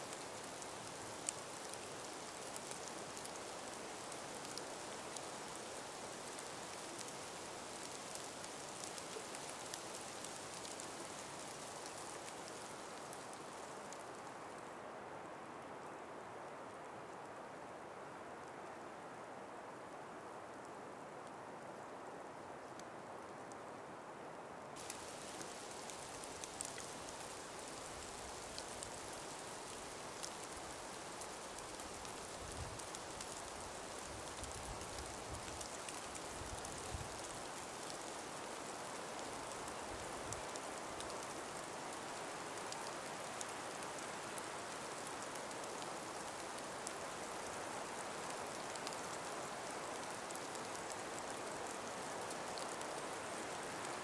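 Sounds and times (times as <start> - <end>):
light ticks and patter: 0.0 - 23.8, 24.6 - 54.0
breeze through forest: 0.0 - 54.0.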